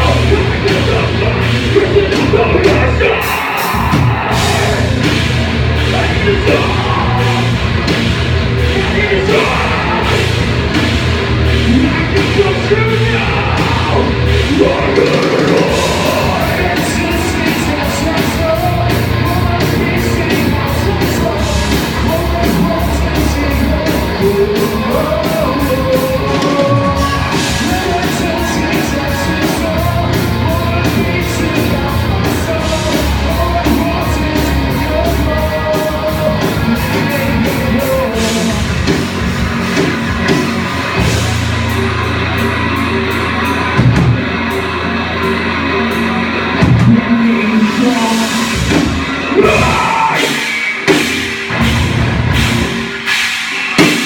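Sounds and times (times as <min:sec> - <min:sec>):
fast drum beat: 0:00.0 - 0:42.6, 0:46.6 - 0:54.0
bass line: 0:00.0 - 0:54.0
live heavy rock band: 0:00.0 - 0:54.0
person singing: 0:00.0 - 0:54.0.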